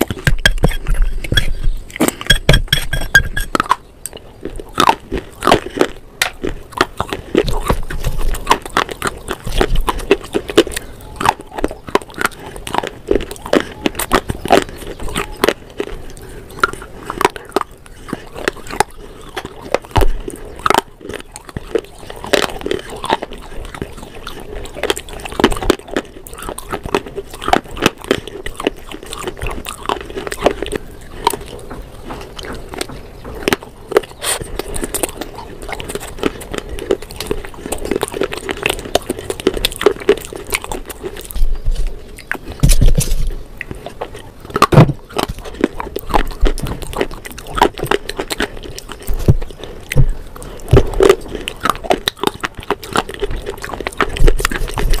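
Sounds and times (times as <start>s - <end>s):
crunching and chewing: 0.0s - 55.0s.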